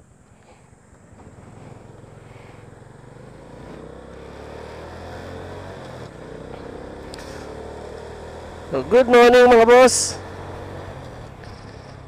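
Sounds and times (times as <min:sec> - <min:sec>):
motorcycle engine pulling away: 0:00.4 - 0:12.0.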